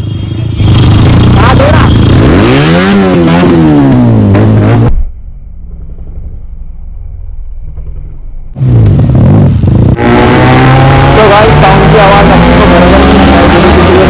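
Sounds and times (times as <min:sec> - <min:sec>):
motorcycle engine revving: 0:00.0 - 0:06.8, 0:07.6 - 0:14.0.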